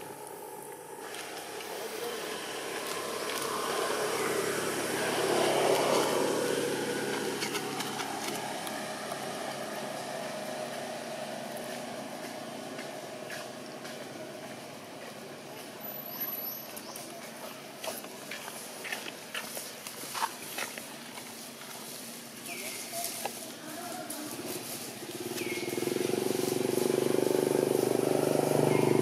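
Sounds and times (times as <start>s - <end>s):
motor vehicle passing by: 0.0s - 29.0s.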